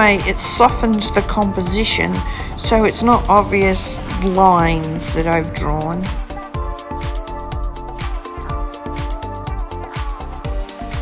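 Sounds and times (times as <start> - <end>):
background music with thumping beat: 0.0 - 11.0.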